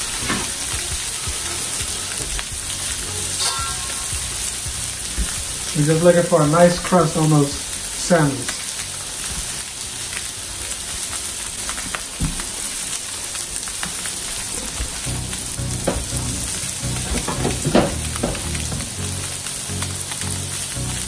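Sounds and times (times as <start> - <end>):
fish sizzling on griddle: 0.0 - 21.0.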